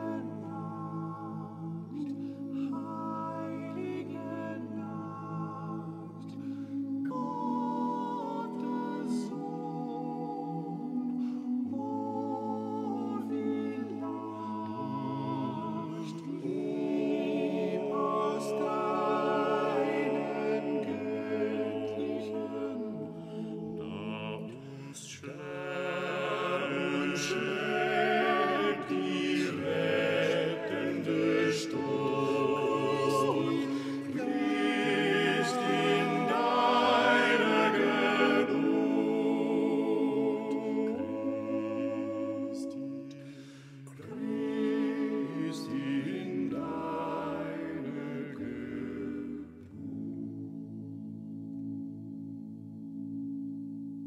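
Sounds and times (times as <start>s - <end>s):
choral chant singing: 0.0s - 52.9s.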